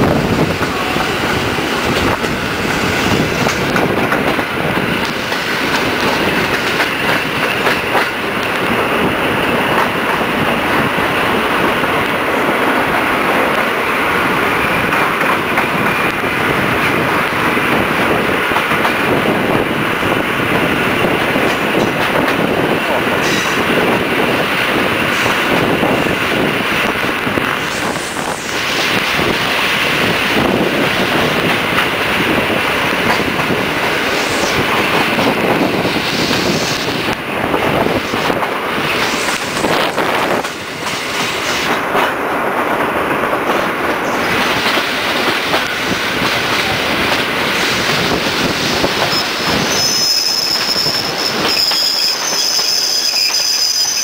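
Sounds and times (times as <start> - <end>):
train flanges squealing: 0.0 - 42.1, 43.4 - 54.0
train wheels rumbling on track: 0.0 - 54.0.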